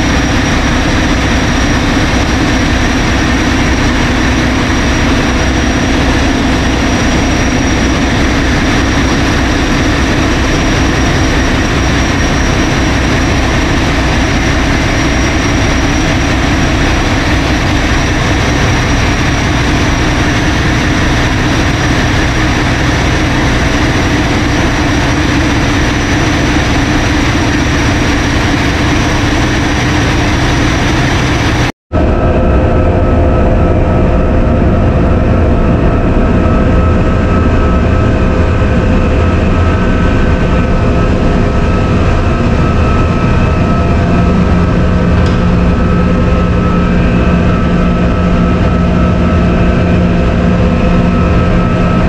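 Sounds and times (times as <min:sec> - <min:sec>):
diesel engines droning: 0:00.0 - 0:52.0.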